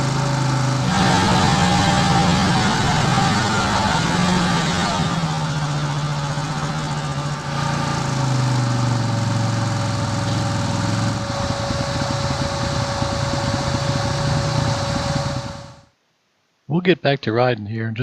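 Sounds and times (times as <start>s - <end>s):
utility vehicle engine running: 0.0s - 15.9s.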